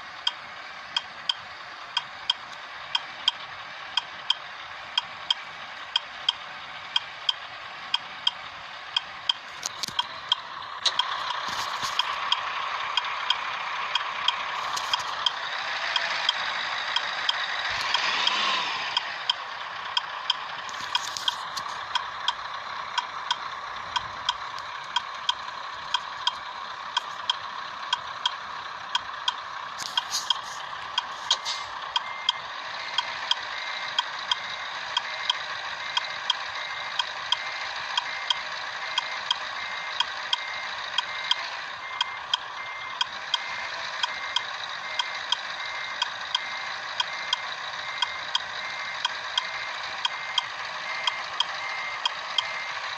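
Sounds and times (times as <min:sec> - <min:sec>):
mechanical ticking: 0:00.2 - 0:52.9.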